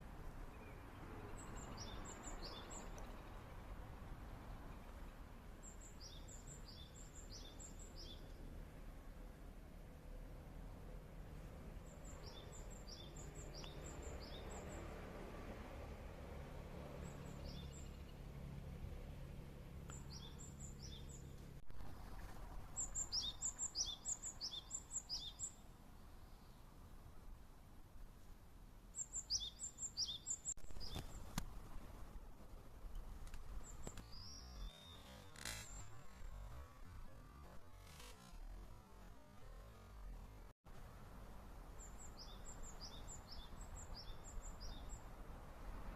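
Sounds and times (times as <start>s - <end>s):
songbird chirping: 0.0s - 9.4s, 10.1s - 16.0s, 16.7s - 27.0s, 28.9s - 31.5s, 32.9s - 45.9s.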